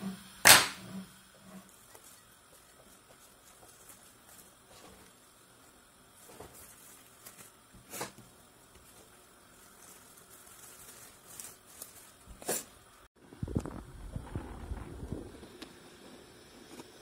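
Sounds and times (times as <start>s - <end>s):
leaves rustling: 1.4s - 15.4s.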